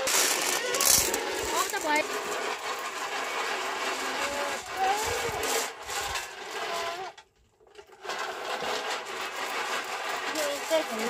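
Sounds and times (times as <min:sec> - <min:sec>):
corn kernels rattling in metal box: 0:00.0 - 0:11.0.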